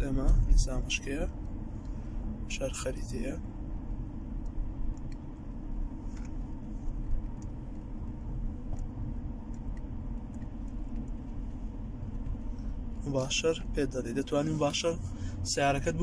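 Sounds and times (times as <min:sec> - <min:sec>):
car engine rumble inside cabin: 0:00.0 - 0:16.0.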